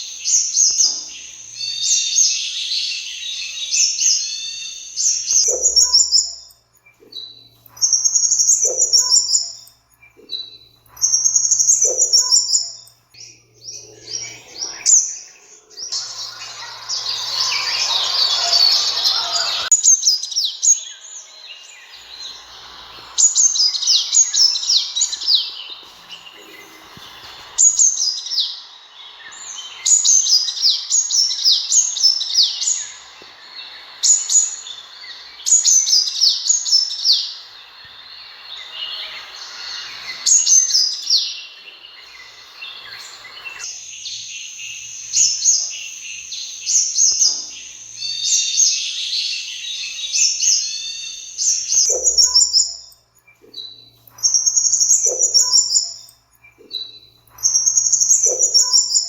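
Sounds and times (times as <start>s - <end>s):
background hiss: 0.0s - 59.0s
sunbird calls: 0.0s - 59.0s.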